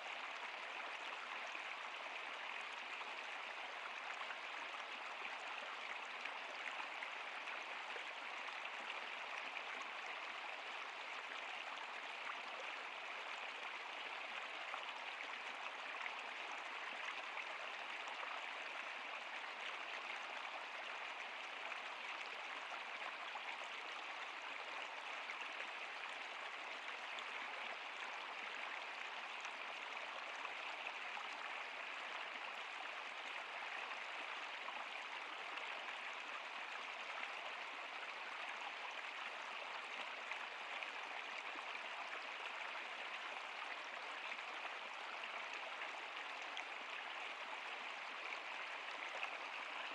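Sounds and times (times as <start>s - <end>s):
stream rushing and babbling: 0.0s - 49.9s.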